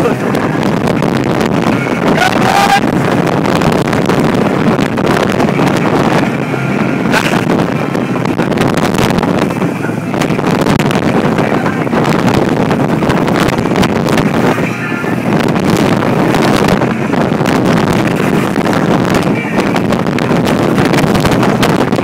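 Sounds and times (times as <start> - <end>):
boat engines droning: 0.0 - 22.0
water rushing against hull: 0.0 - 22.0
wind buffeting microphone: 0.0 - 22.0.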